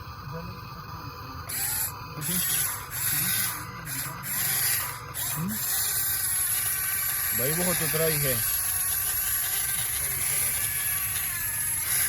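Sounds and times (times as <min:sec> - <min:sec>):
toy electric motors whining: 0:00.0 - 0:12.0.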